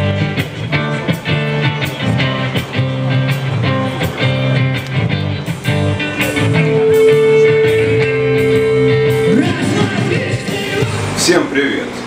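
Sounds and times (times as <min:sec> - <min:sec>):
rock band with electric guitars: 0:00.0 - 0:12.0.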